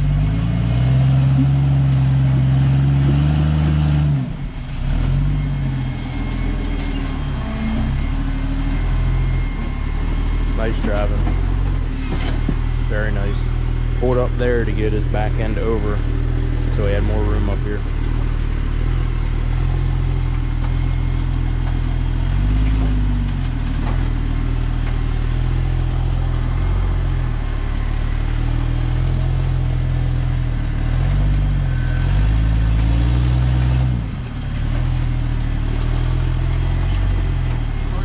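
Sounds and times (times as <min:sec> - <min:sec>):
buggy engine revving: 0:00.0 - 0:38.0.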